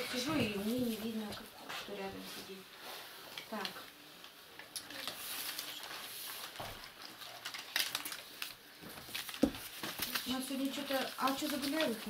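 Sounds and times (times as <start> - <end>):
paper and book rustling: 0.0 - 12.0.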